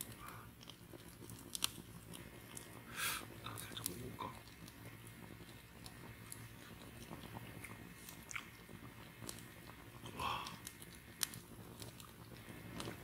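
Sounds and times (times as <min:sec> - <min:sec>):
chewing marshmallow: 0:00.0 - 0:13.0
small crackles and clicks: 0:00.0 - 0:13.0.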